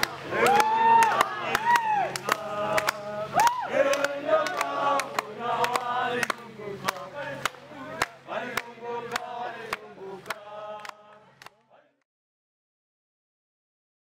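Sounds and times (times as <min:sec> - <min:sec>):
hand clapping: 0:00.0 - 0:11.7
group singing a chant-like song: 0:00.0 - 0:12.0.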